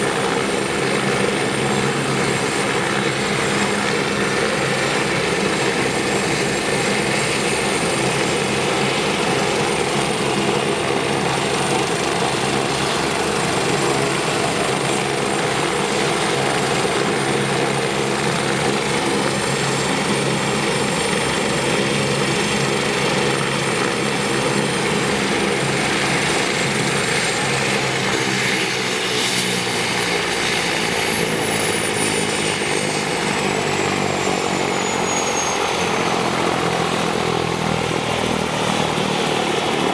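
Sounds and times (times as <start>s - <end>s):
helicopter rotor: 0.0s - 39.9s
helicopter turbine whine: 0.0s - 39.9s.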